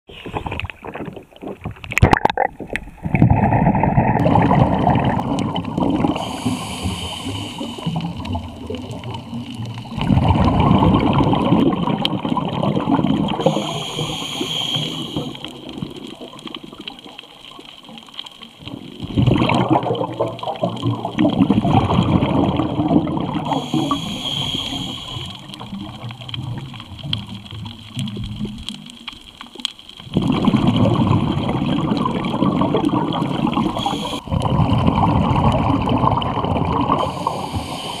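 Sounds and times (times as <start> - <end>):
water sloshing underwater: 0.1 - 38.0.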